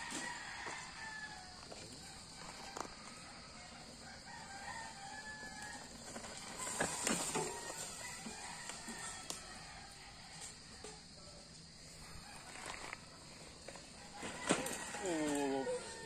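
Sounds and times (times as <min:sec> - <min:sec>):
bike tyres on gravel: 0:00.0 - 0:10.8, 0:11.7 - 0:16.0
rooster crowing: 0:00.0 - 0:13.2, 0:13.9 - 0:16.0.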